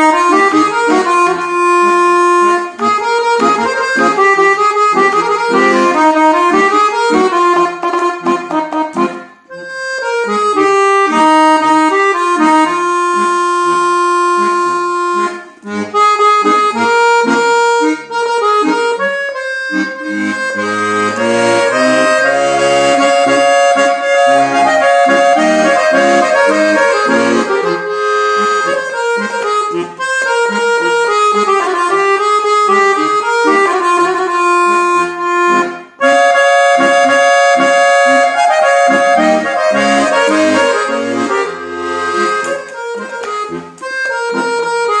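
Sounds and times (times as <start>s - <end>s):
button accordion playing: 0.0s - 45.0s.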